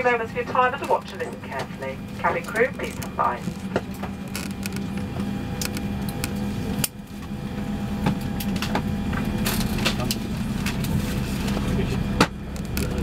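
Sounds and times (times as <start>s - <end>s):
aircraft cabin hum: 0.0s - 13.0s.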